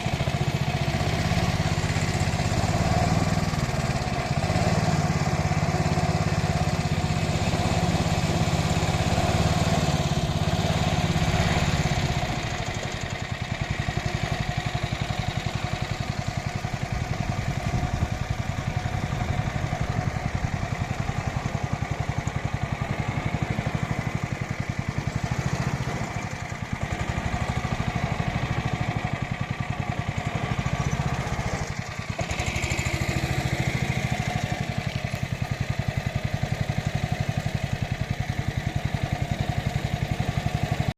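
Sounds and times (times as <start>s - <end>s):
small boat engine running: 0.0s - 40.9s.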